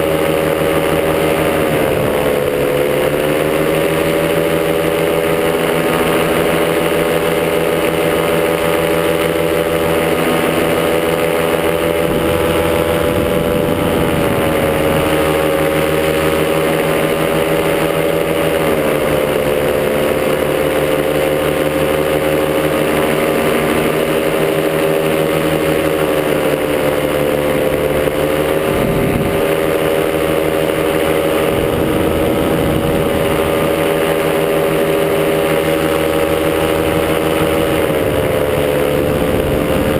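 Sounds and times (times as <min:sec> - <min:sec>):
paramotor engine and propeller droning: 0:00.0 - 0:39.9.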